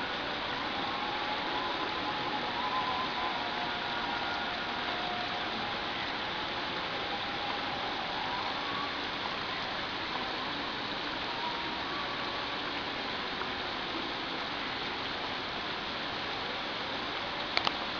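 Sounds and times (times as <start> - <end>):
rain on pond water: 0.0 - 17.9.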